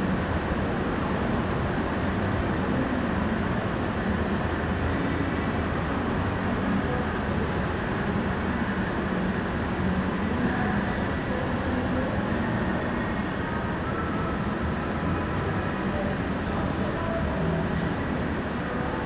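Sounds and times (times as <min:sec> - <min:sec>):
shopping mall hum: 0:00.0 - 0:19.0.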